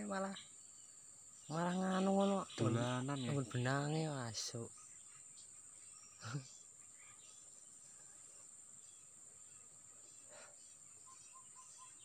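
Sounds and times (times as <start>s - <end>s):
faint chirps: 0.0s - 12.0s
insects droning: 0.0s - 12.0s.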